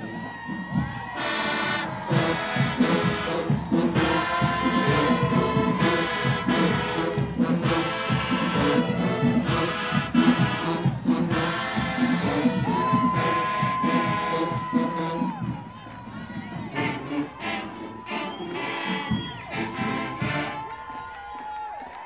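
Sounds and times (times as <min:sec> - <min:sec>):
brass band playing: 0:00.0 - 0:20.9
drumline beat: 0:00.0 - 0:21.3.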